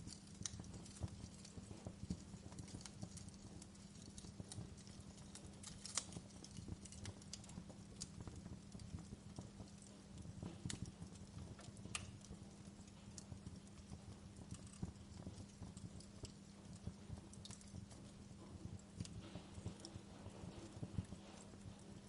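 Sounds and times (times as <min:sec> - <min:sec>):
faint low hum: 0:00.0 - 0:22.0
fireplace crackling: 0:00.0 - 0:22.0.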